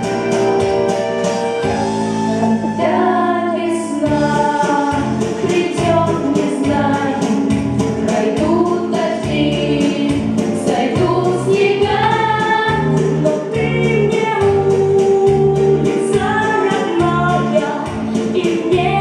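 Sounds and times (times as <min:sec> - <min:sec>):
backing track with beat and bass: 0:00.0 - 0:03.3, 0:04.0 - 0:19.0
boys singing into microphones: 0:02.7 - 0:19.0.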